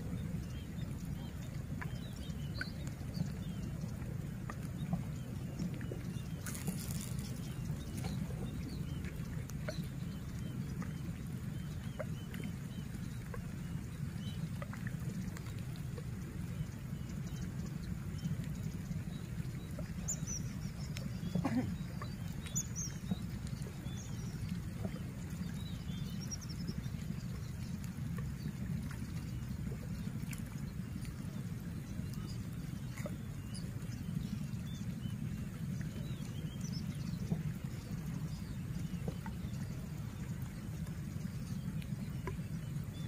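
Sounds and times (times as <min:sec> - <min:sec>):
wind rumble on microphone: 0:00.0 - 0:43.0.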